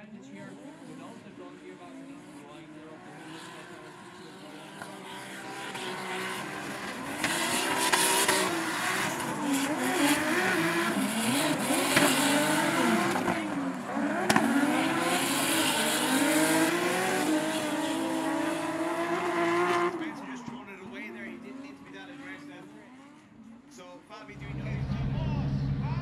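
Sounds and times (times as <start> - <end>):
car engines revving hard: 0.2 - 23.5.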